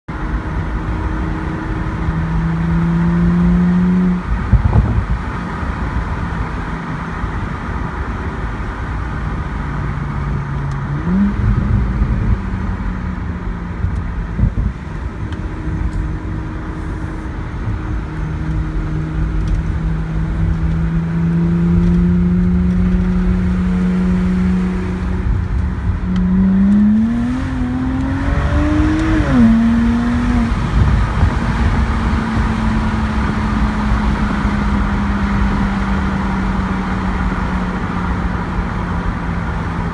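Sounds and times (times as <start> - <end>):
car engine revving: 0.2 - 39.9.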